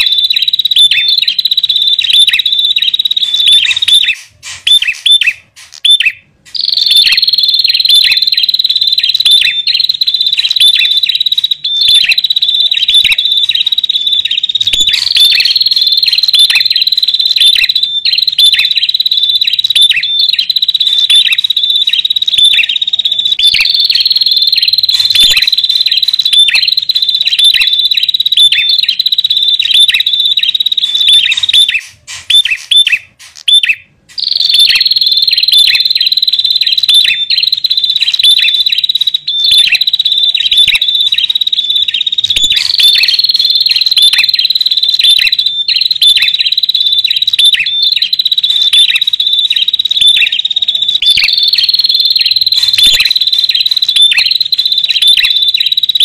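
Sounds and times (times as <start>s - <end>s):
birds chattering: 0.0s - 56.0s
high bird trill: 0.0s - 56.0s.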